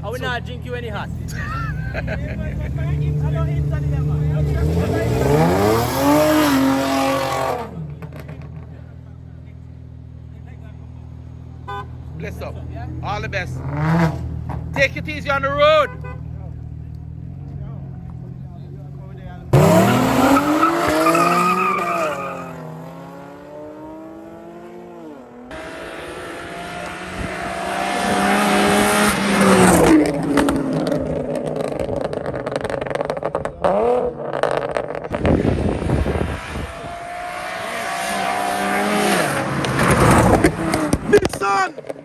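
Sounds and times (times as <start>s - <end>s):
race car engines accelerating: 0.0s - 42.0s.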